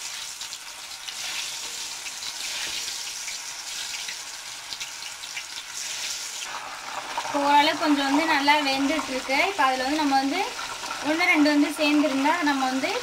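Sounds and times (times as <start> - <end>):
deep-frying oil sizzling: 0.0 - 13.0.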